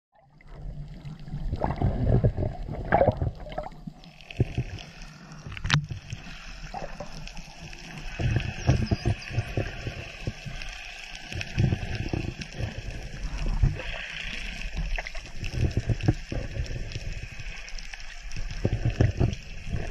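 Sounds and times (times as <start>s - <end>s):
underwater rumbling and sloshing: 0.1s - 19.9s.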